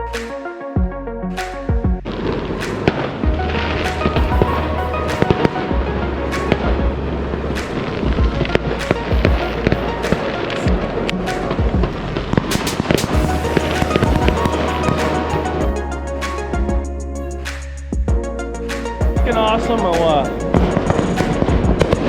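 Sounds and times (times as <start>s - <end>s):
music playing: 0.0s - 22.0s.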